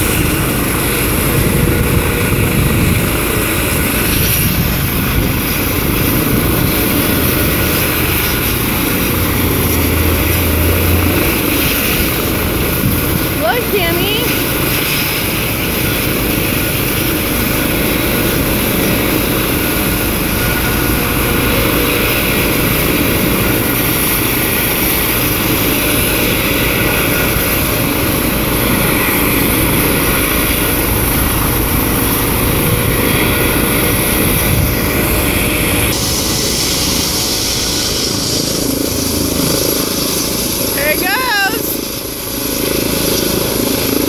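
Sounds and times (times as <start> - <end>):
helicopter running on ground: 0.0 - 44.0.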